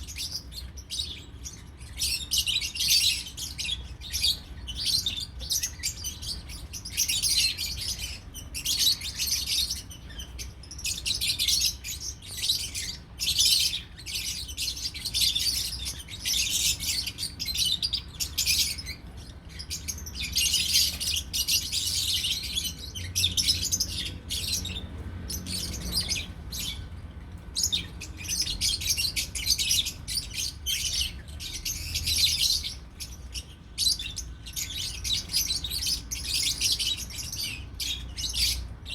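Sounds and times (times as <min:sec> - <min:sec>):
lovebirds chattering: 0:00.0 - 0:38.9.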